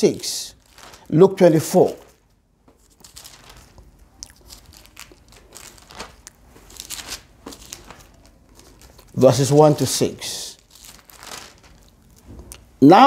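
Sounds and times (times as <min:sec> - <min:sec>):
paper pages rustling: 0:00.5 - 0:12.7
page crackles: 0:00.6 - 0:01.1, 0:01.8 - 0:12.6.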